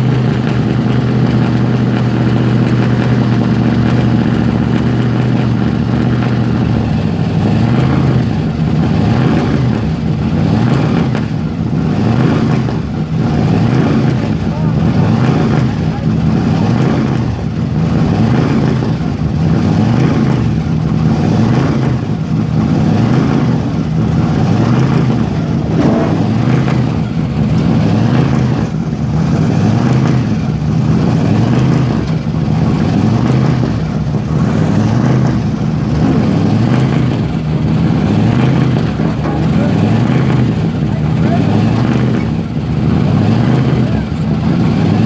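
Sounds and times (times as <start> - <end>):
car engine idling loudly: 0.0 - 45.0.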